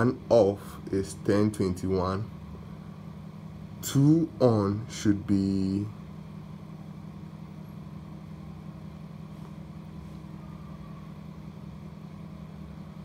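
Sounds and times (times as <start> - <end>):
small cooling fan humming: 0.0 - 13.0.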